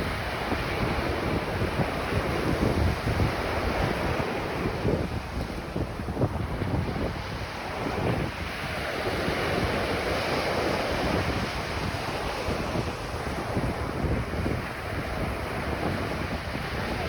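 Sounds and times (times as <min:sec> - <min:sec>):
ocean waves on beach: 0:00.0 - 0:17.0
wind buffeting microphone: 0:00.0 - 0:17.0.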